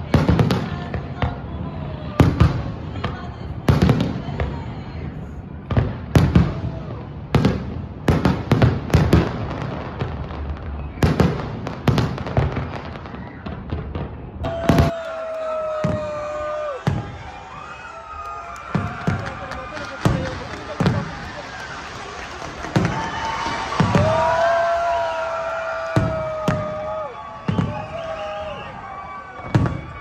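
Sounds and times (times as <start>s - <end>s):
fireworks booming: 5.5s - 30.0s.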